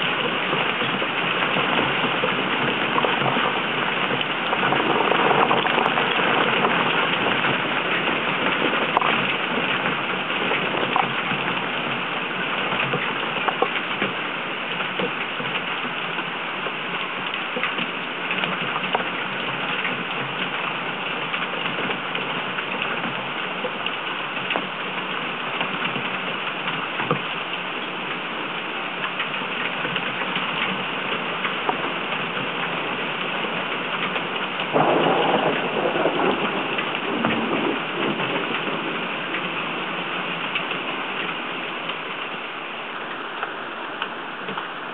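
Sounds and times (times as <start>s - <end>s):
heavy rain hissing: 0.0s - 44.9s
raindrops ticking: 0.0s - 44.9s.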